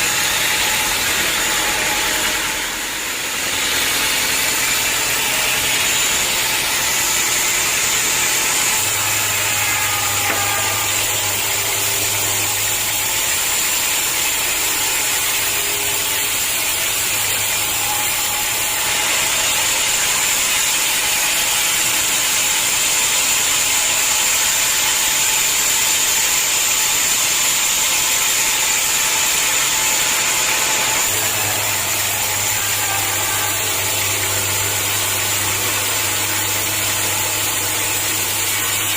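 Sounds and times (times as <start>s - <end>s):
high mechanical whine: 0.0s - 38.9s
sawmill machinery sawing logs: 0.0s - 38.9s.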